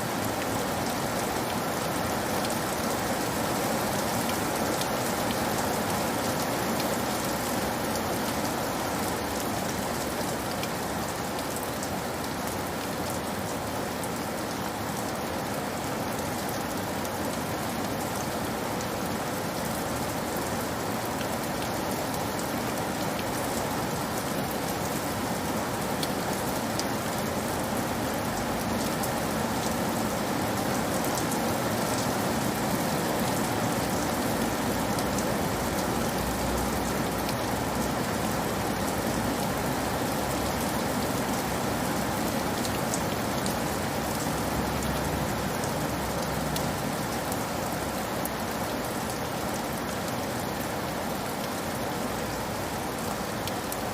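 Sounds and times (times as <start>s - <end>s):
rain falling on a roof: 0.0s - 53.9s.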